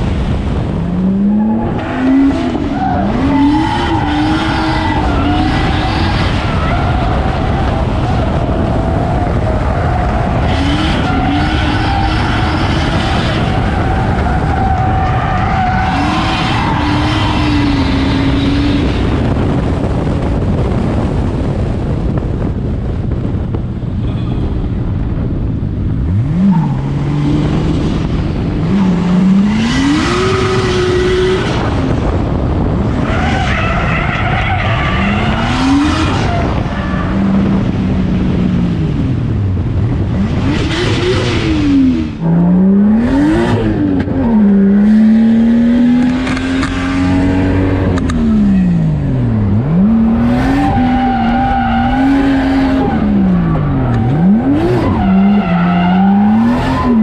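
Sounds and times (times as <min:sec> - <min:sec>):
car engine revving: 0:00.0 - 0:21.3, 0:24.0 - 0:57.0
tyres skidding and squealing: 0:00.6 - 0:19.5, 0:26.1 - 0:38.3, 0:40.2 - 0:57.0.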